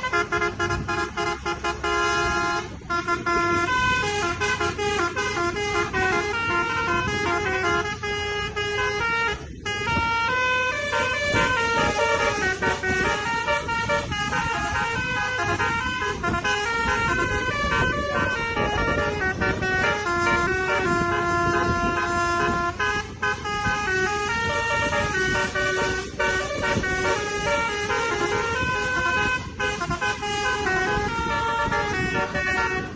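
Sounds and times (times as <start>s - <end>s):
bus horn playing melody: 0.0s - 32.9s
road noise: 0.0s - 32.9s.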